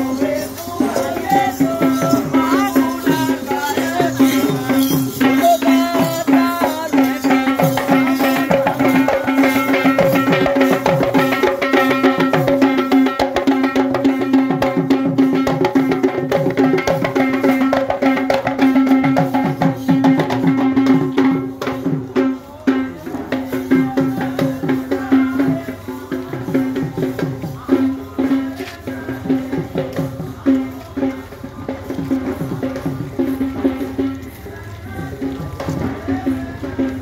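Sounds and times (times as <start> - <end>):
hand drums beating: 0.0 - 37.0.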